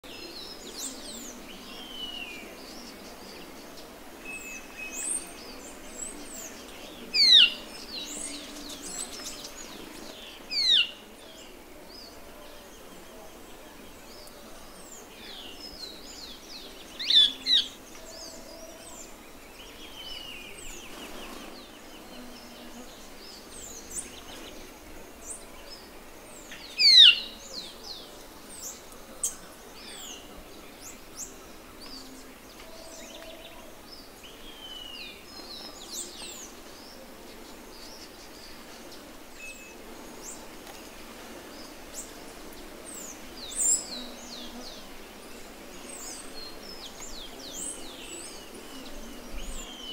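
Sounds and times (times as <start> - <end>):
forest birds chirping and whistling: 0.0 - 12.2, 13.0 - 49.9.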